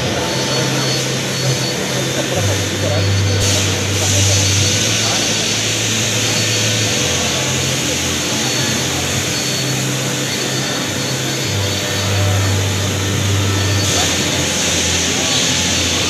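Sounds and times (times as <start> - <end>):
indistinct background voices: 0.0 - 16.0
machine humming: 0.0 - 16.0.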